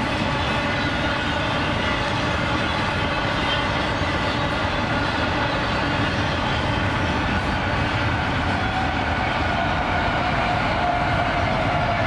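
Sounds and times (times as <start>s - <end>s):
freight train wheels on rail: 0.0s - 12.0s.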